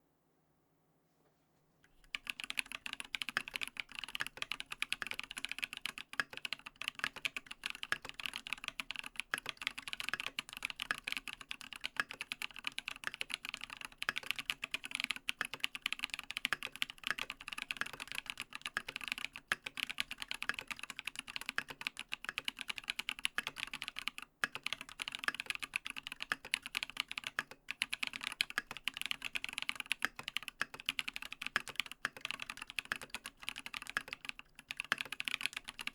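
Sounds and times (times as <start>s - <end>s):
fast typing on mechanical keyboard: 2.0s - 35.9s.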